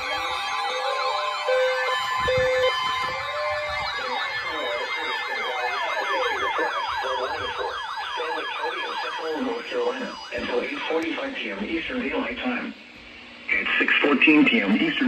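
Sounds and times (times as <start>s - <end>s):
electronic sirens wailing: 0.0s - 12.8s.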